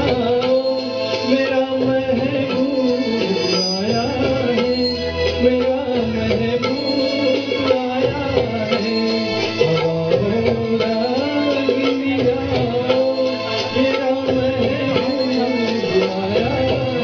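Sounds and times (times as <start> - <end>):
instrumental accompaniment: 0.0 - 17.0
man singing into microphone: 0.0 - 17.0
steady percussion beat: 0.0 - 17.0.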